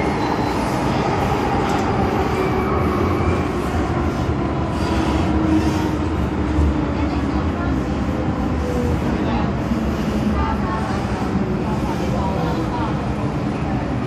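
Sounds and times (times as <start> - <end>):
underground train rumble: 0.0 - 14.0.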